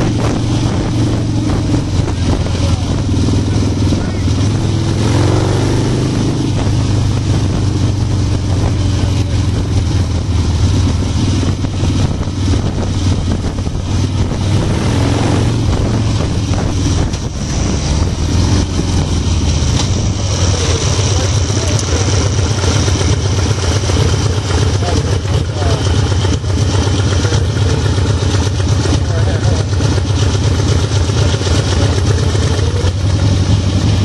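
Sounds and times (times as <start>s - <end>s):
motorcycle engine droning: 0.0s - 34.0s.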